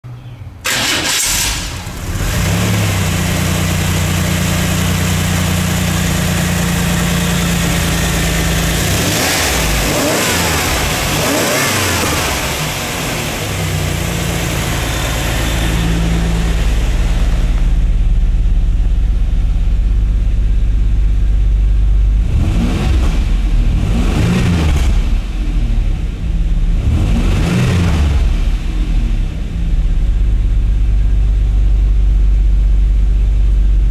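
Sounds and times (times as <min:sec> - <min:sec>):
car engine idling and revving: 0:00.6 - 0:33.9.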